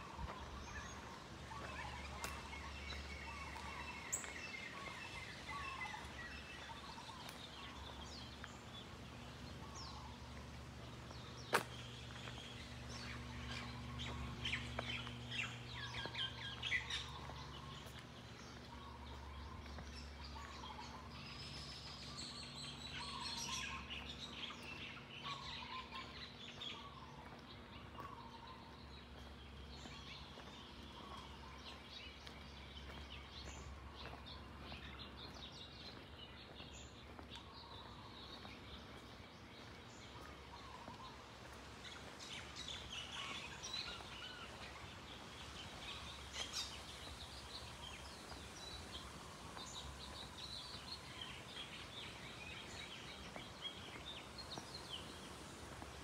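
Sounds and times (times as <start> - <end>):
birds chirping: 0.0 - 56.0
low steady rumble: 0.0 - 56.0.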